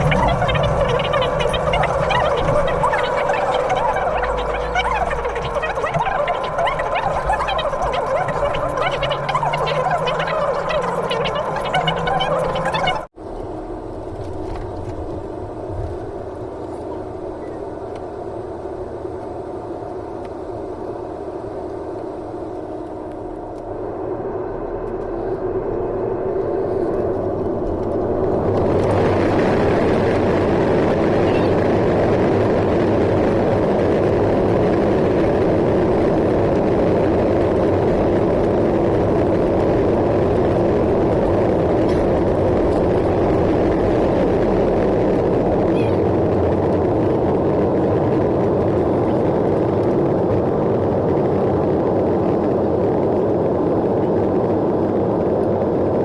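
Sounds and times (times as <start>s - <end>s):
jet engines heard from cabin: 0.0s - 56.0s.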